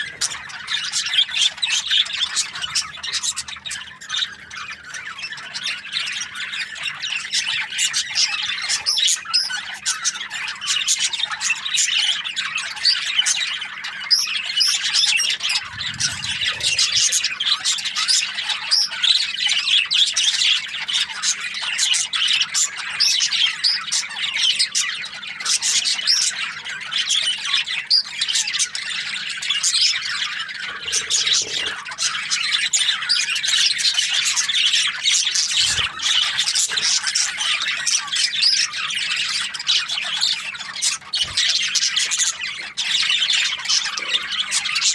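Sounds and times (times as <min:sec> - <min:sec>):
budgerigars chattering and squawking: 0:00.0 - 0:44.9.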